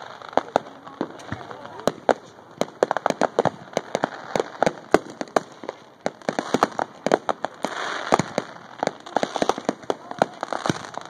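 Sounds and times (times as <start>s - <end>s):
fireworks cracking and popping: 0.0s - 11.0s
fireworks hissing rush: 0.0s - 11.0s.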